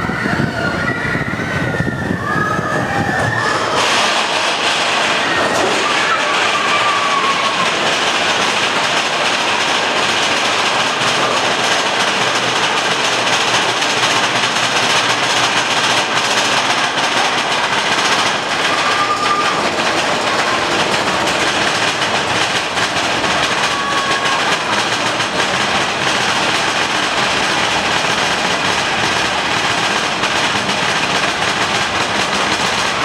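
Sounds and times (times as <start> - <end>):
train cars rattling over rails: 0.0 - 33.0.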